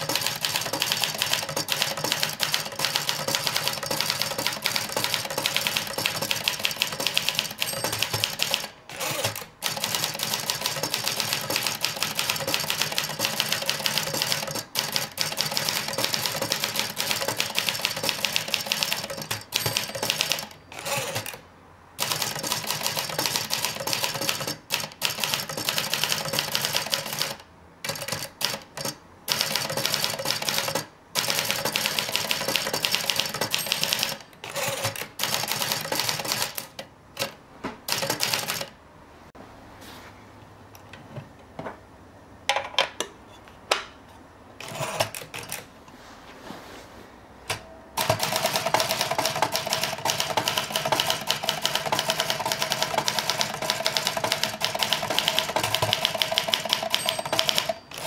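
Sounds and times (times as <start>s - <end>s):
manual typewriter typing: 0.0s - 21.4s, 22.0s - 38.7s, 44.6s - 45.7s, 48.0s - 58.0s.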